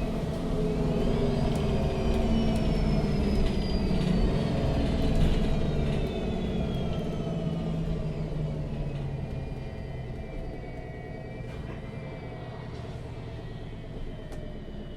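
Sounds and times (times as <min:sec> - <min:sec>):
bus engine rumble: 0:00.0 - 0:14.9.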